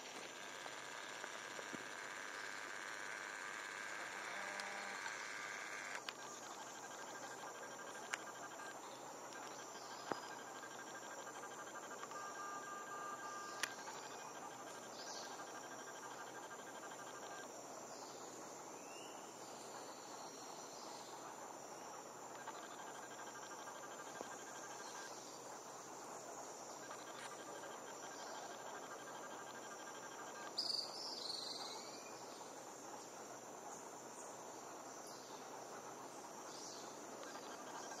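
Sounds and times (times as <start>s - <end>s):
high-pitched insect trilling: 0.0s - 38.0s
lower insect trill: 0.0s - 38.0s.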